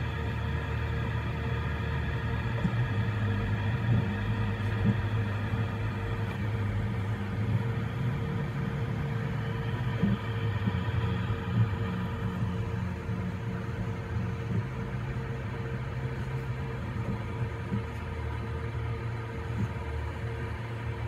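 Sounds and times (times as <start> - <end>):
stepper motors and fans whining: 0.0 - 21.0.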